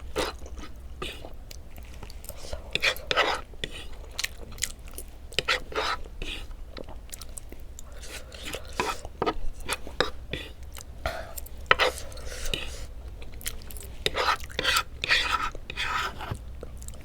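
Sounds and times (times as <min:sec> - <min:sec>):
person chewing close up: 0:00.0 - 0:17.0.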